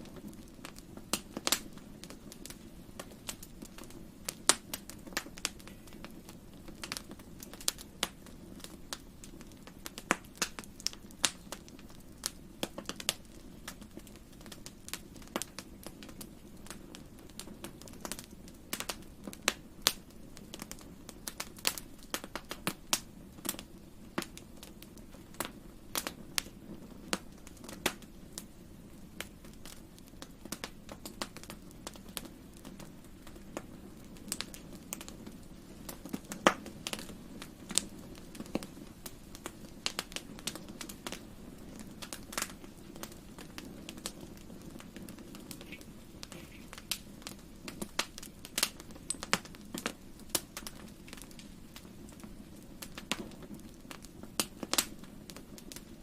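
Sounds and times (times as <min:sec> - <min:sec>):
low rumble of burning fire: 0:00.0 - 0:56.0
wood fire crackling: 0:00.0 - 0:56.0.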